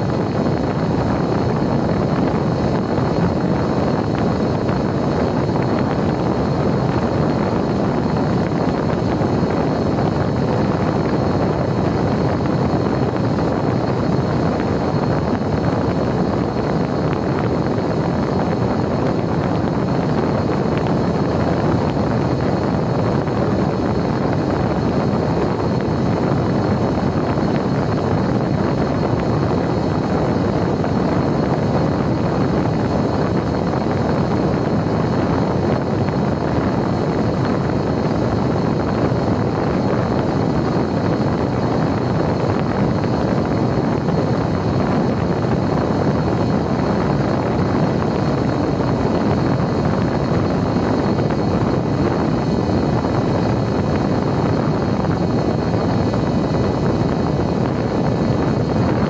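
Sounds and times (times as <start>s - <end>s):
wind rush: 0.0s - 59.0s.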